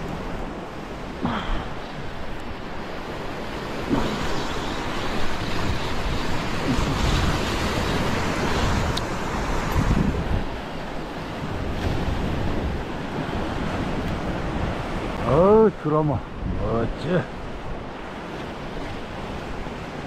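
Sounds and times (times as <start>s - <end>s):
sea waves breaking on rocks: 0.0s - 20.0s
wind buffeting microphone: 0.0s - 20.0s.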